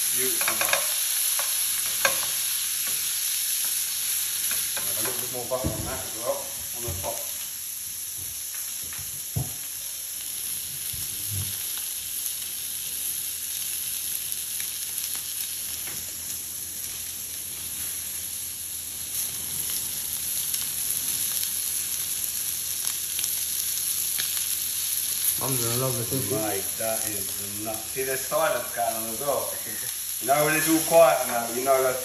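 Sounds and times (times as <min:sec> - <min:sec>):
steak sizzling in a frying pan: 0:00.0 - 0:32.0.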